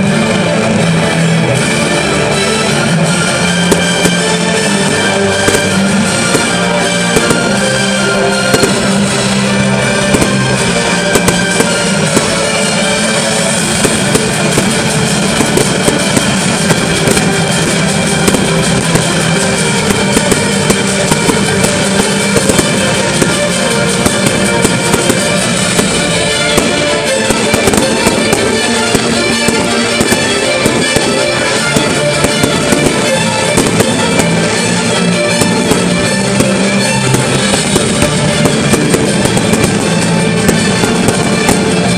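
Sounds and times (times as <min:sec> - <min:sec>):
fireworks bangs and crackles: 0:00.0 - 0:41.9
music playing: 0:00.0 - 0:41.9.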